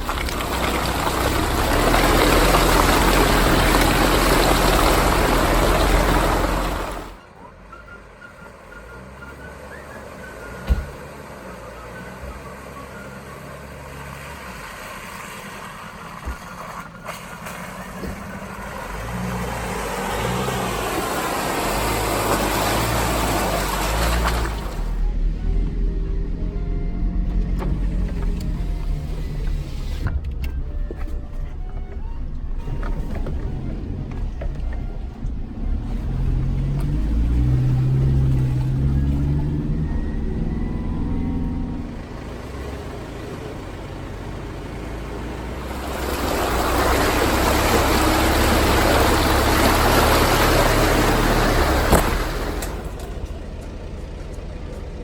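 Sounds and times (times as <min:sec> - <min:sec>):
off-road vehicle engine running: 0:00.0 - 0:55.0.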